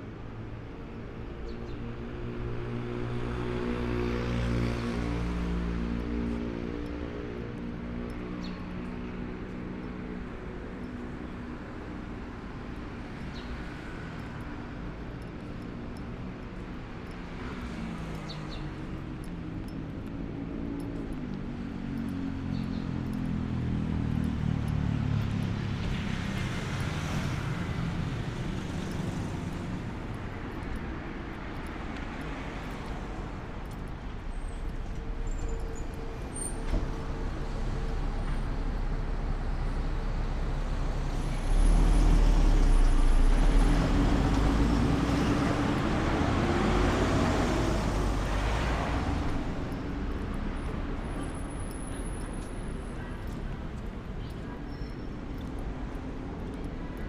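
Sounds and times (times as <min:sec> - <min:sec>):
car and bus engines passing: 0:00.0 - 0:57.0.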